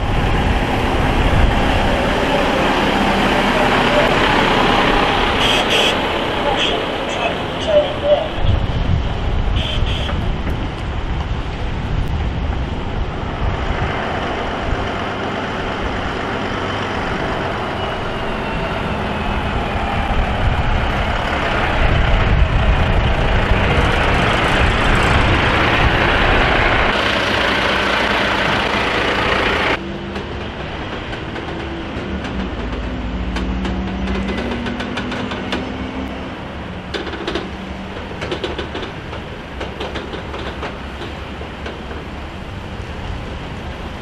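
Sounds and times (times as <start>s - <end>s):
diesel engine running: 0.0s - 9.0s, 12.3s - 44.0s
tyres rumbling on road: 0.0s - 44.0s.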